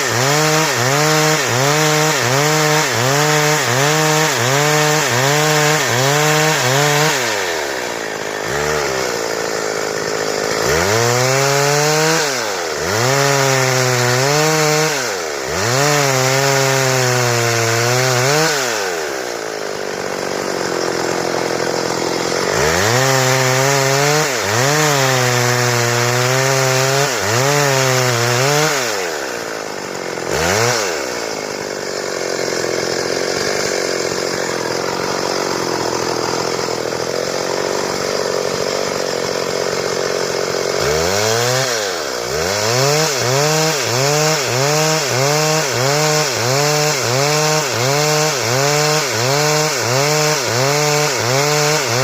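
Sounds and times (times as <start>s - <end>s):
chainsaw sawing wood: 0.0s - 52.0s.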